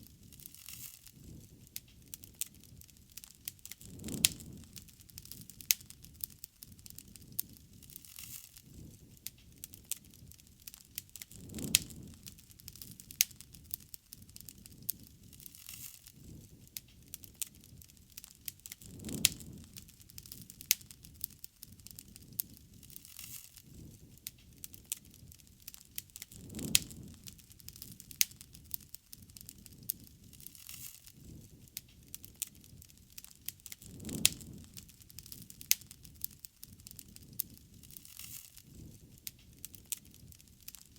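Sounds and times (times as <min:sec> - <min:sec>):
bonfire crackling and popping: 0:00.0 - 0:40.9
soft burning noise: 0:00.0 - 0:40.9.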